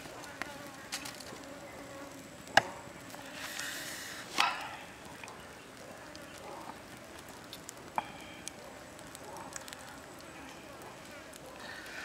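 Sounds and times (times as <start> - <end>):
campfire crackling: 0.0 - 12.0
fire hissing: 0.0 - 12.0.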